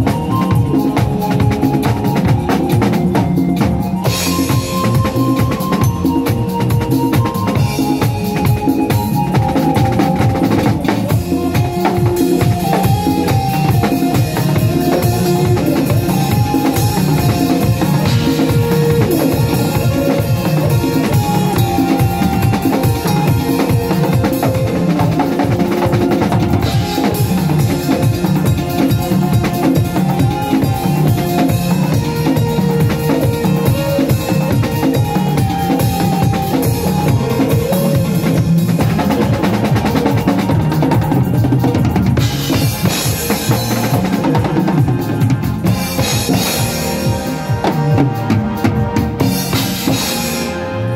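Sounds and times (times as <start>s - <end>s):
drum kit playing: 0.0s - 50.9s.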